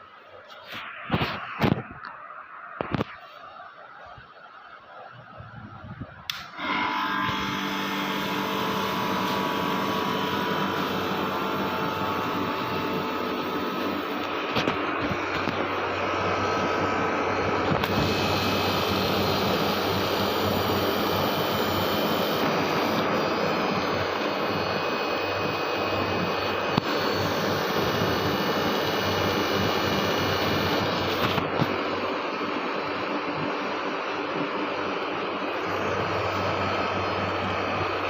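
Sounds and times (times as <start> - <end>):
air conditioner running: 5.6 - 38.0.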